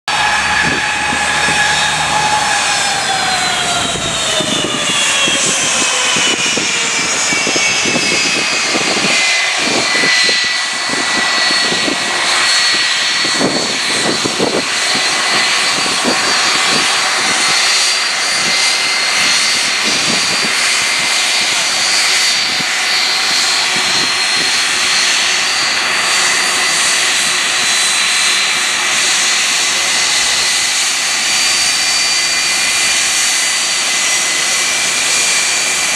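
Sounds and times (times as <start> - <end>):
jet engines whining: 0.1 - 35.9.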